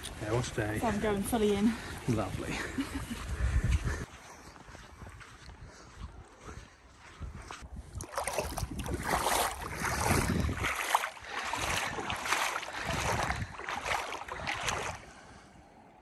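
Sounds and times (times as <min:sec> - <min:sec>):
feet splashing through water: 0:00.8 - 0:15.4
wind buffeting microphone: 0:01.0 - 0:15.4.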